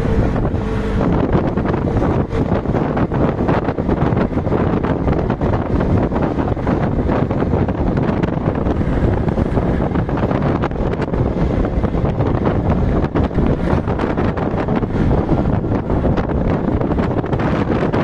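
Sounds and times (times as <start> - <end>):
road and engine noise: 0.0 - 18.0
wind buffeting microphone: 0.0 - 18.0.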